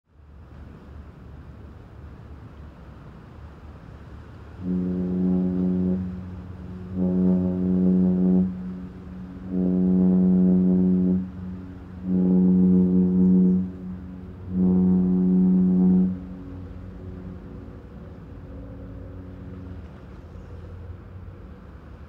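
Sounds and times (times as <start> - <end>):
ship's horn blasts: 2.6 - 22.0.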